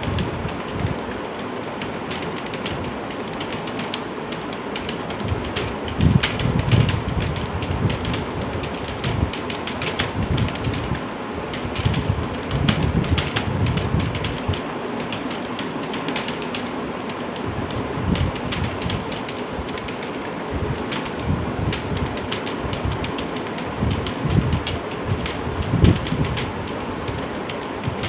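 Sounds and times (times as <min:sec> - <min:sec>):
steady background hiss: 0:00.0 - 0:28.0
keyboard typing clicks: 0:00.1 - 0:28.0.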